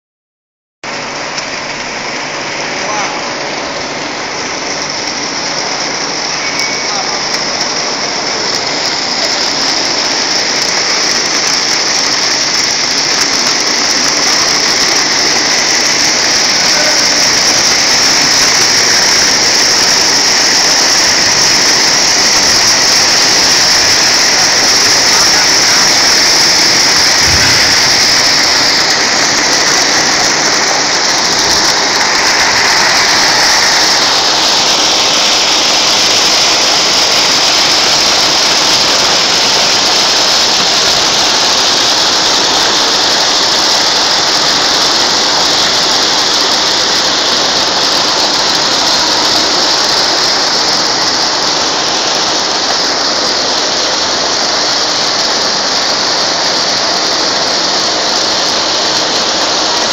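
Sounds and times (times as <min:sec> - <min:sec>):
slitting machine high-pitched hiss: 0:01.3 - 0:59.9.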